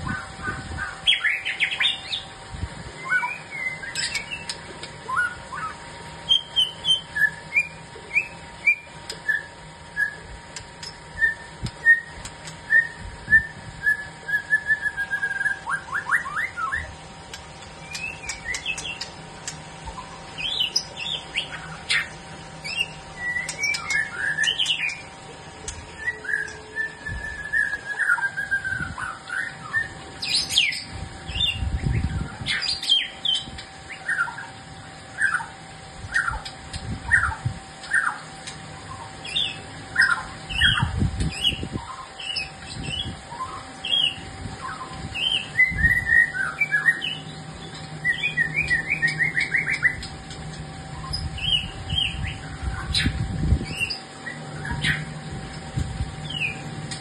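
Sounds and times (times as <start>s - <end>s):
faint steady hum: 0.0s - 57.0s
songbird singing: 0.0s - 57.0s.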